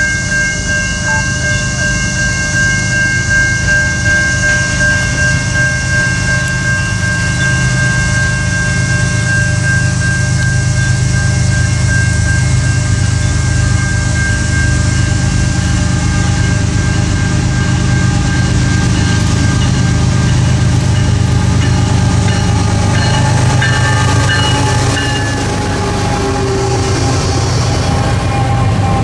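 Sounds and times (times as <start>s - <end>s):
distant freight train rumble: 0.0s - 29.0s
steady high ringing tone: 0.0s - 29.0s.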